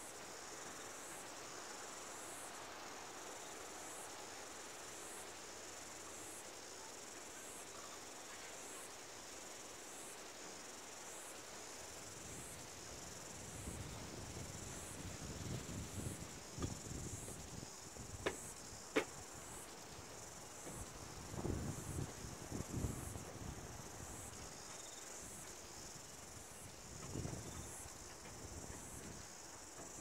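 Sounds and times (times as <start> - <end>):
insects chirping: 0.0 - 30.0
soft steady hiss: 0.0 - 30.0.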